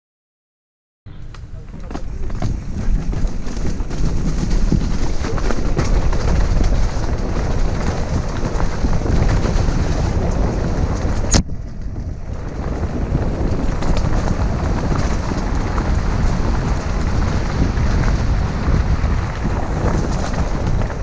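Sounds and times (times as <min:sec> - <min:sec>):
bike rattle and tyre noise: 0:01.1 - 0:21.0
wind buffeting microphone: 0:01.1 - 0:21.0.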